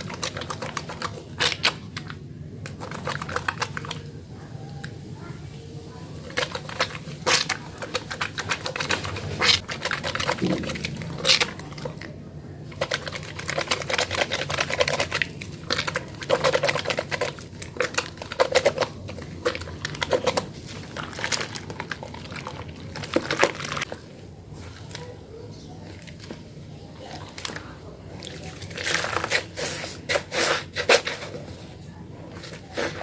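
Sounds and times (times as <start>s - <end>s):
soap lather squelching: 0.0s - 5.0s, 6.1s - 31.6s.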